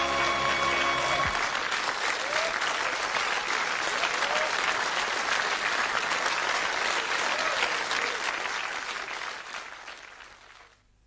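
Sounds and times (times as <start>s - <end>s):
studio audience applauding: 0.0s - 10.8s.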